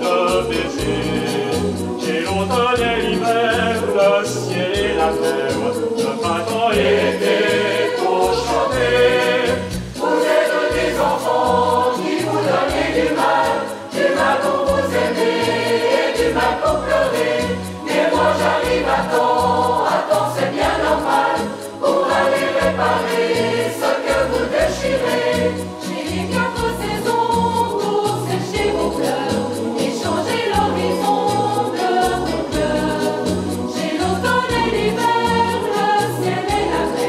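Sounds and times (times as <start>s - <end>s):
mixed choir singing in harmony: 0.0s - 37.0s.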